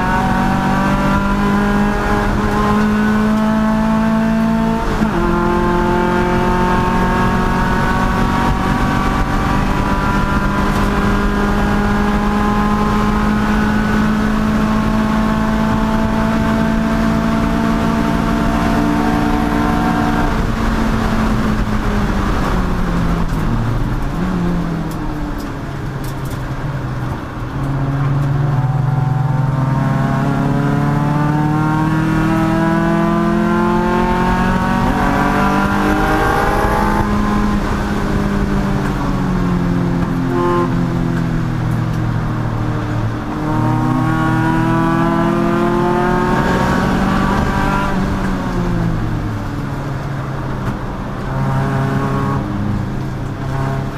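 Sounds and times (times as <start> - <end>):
race car engine at full throttle: 0.0 - 53.9.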